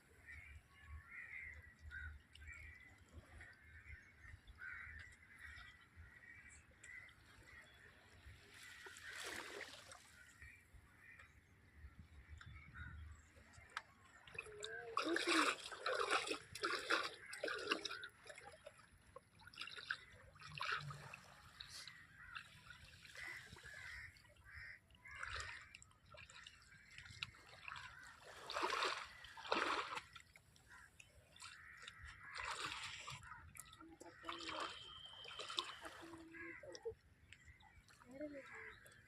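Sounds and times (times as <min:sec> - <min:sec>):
seawater splashing and trickling: 0:00.0 - 0:39.0.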